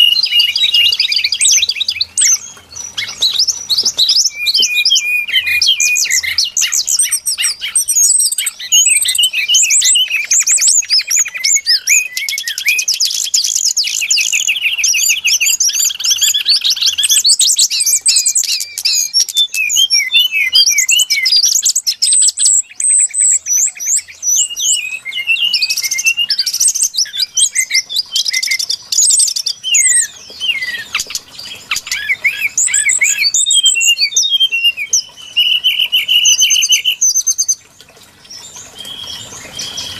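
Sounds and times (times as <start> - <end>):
bird whistling and trilling: 0.0 - 39.9.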